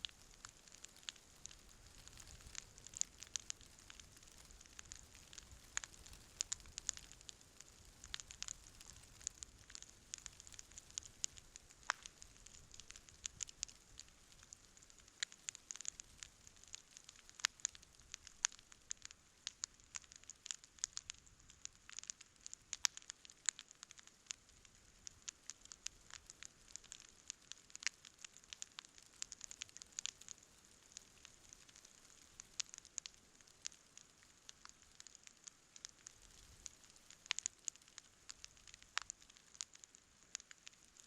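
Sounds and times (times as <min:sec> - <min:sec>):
campfire crackling and popping: 0:00.0 - 0:41.0
fire hiss: 0:00.0 - 0:41.0.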